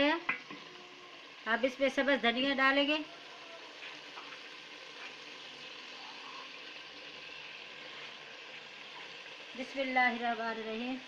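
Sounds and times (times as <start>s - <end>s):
food simmering in a pot: 0.0s - 11.0s.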